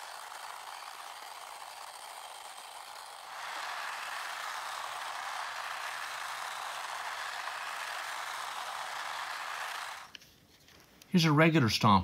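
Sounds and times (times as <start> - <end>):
toy truck motor whirring: 0.0 - 10.2.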